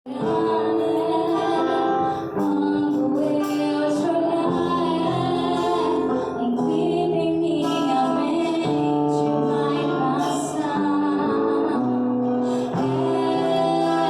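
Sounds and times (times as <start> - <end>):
woman singing: 0.1 - 14.0.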